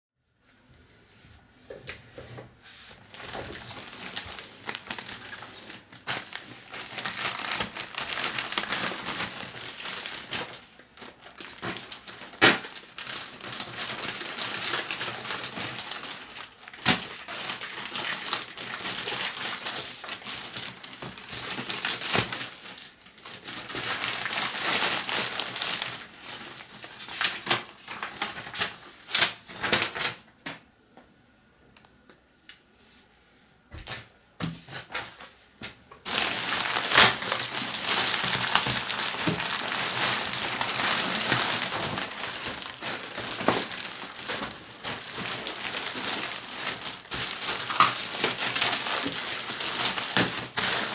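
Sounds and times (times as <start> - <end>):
packaging crinkling and rustling: 2.9 - 30.6, 36.0 - 50.9.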